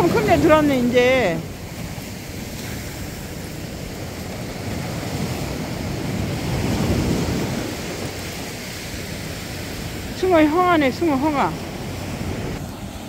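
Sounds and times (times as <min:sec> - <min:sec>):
sea surf washing up beach: 0:00.0 - 0:13.0.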